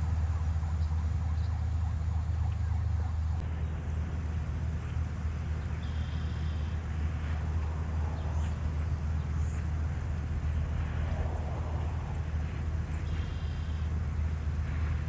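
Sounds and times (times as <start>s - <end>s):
distant diesel engines rumbling: 0.0s - 15.0s.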